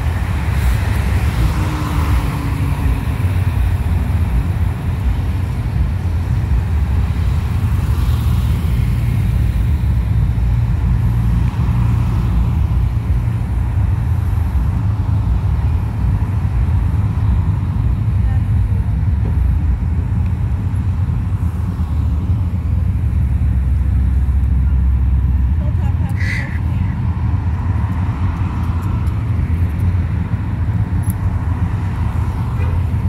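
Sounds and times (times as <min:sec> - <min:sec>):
cars passing: 0:00.0 - 0:33.0
low engine rumble: 0:00.0 - 0:33.0.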